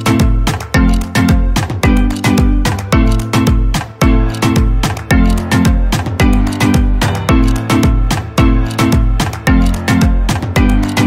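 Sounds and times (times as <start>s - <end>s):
music with quick beat and deep bass: 0.0s - 11.0s.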